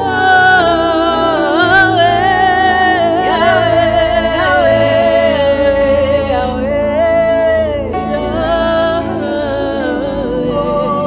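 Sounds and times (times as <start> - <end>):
sustained chords: 0.0 - 11.0.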